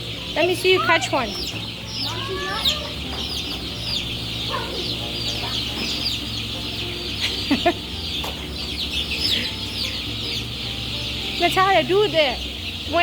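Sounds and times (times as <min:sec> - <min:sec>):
chicks cheeping: 0:00.0 - 0:13.0.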